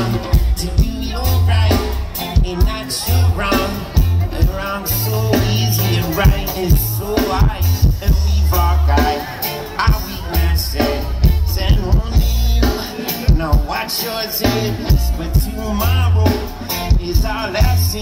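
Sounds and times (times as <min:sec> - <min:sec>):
deep bass notes: 0:00.0 - 0:18.0
electric guitar: 0:00.0 - 0:18.0
live reggae band: 0:00.0 - 0:18.0.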